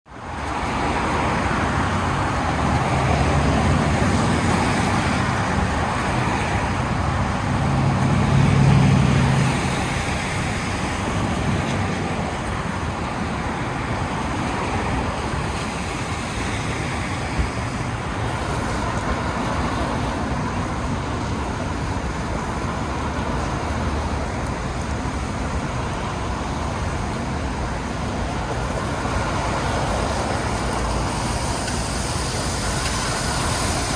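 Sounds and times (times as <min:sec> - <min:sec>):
city traffic: 0:00.0 - 0:33.9
rain: 0:00.1 - 0:33.9.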